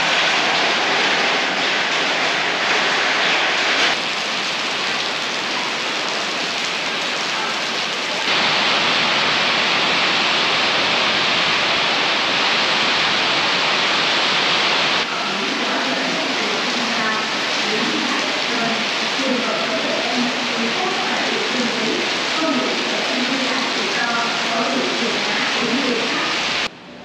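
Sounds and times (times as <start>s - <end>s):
rain on wet pavement: 0.0s - 26.7s.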